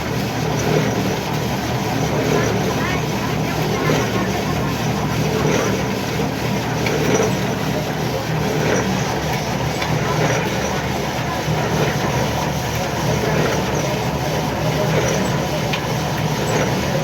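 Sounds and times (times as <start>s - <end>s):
heavy machinery drone: 0.0s - 17.0s.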